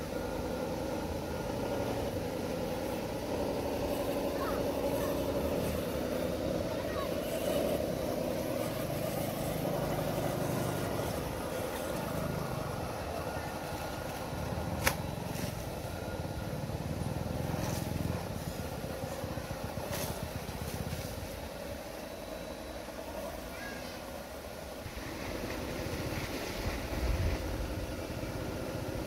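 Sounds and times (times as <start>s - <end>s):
electric motors whirring: 0.0s - 27.2s.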